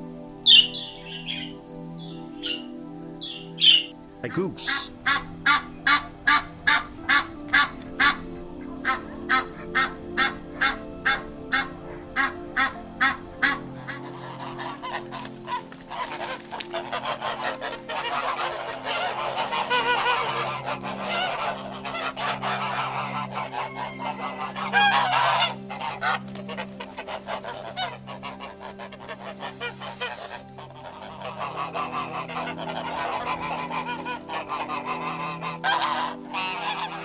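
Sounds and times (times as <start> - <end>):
goose honking: 0.5 - 37.0.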